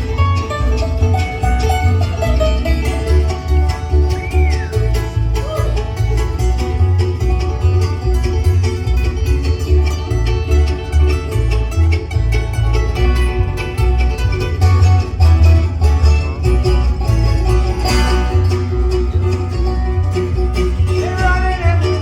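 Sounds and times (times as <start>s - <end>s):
bluegrass string band: 0.0s - 22.0s.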